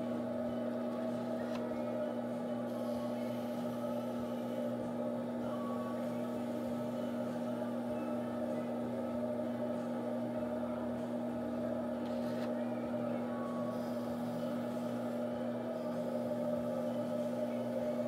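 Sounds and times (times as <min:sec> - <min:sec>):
potter's wheel motor hum: 0:00.0 - 0:18.0.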